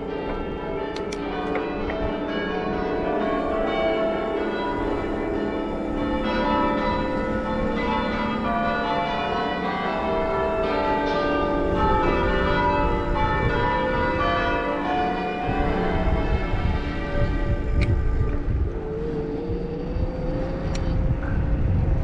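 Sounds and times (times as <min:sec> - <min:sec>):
church bells pealing: 0:00.0 - 0:20.0
wind rumble on microphone: 0:00.0 - 0:22.0.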